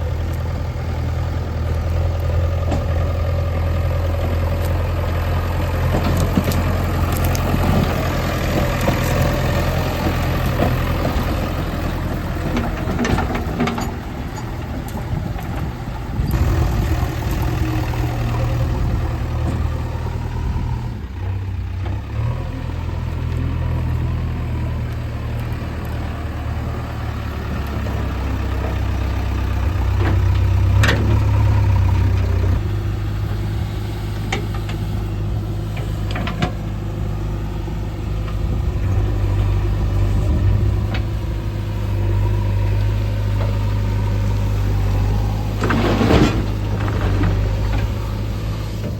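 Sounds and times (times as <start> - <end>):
diesel engine throbbing: 0.0 - 48.9.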